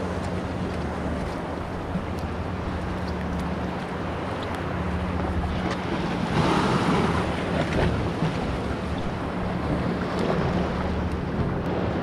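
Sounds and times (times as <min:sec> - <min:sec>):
water lapping against a pier: 0:00.0 - 0:12.0
wind buffeting microphone: 0:00.0 - 0:12.0.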